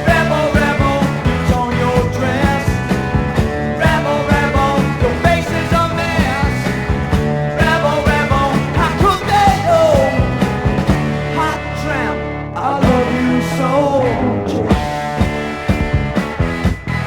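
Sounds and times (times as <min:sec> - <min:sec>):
man singing: 0:00.0 - 0:15.0
bass and drums: 0:00.0 - 0:17.0
electric guitar riff: 0:00.0 - 0:17.0.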